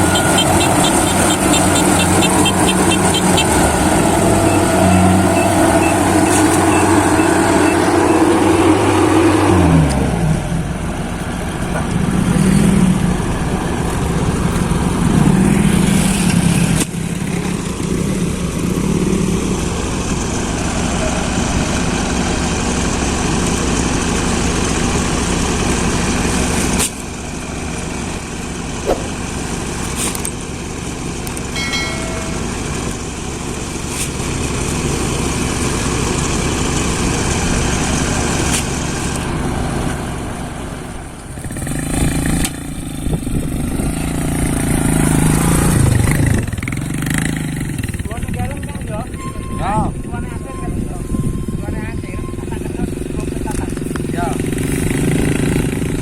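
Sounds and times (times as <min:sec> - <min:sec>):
combine harvester engine running: 0:00.0 - 0:56.0.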